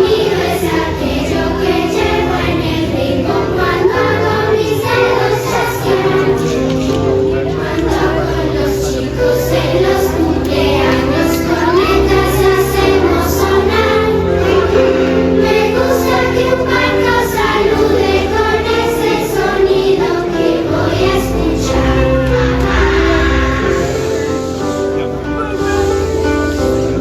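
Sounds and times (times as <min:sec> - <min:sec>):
children singing: 0:00.0 - 0:27.0
recorded backing track: 0:00.0 - 0:27.0.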